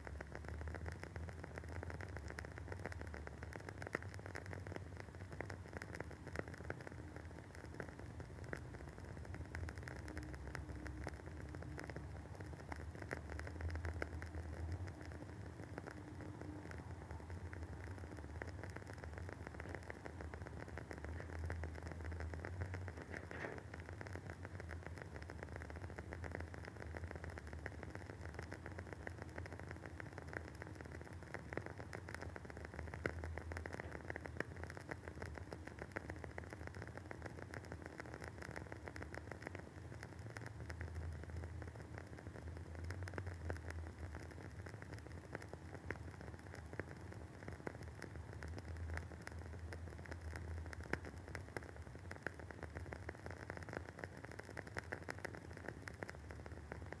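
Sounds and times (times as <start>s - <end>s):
candle wick crackling: 0.0s - 57.0s.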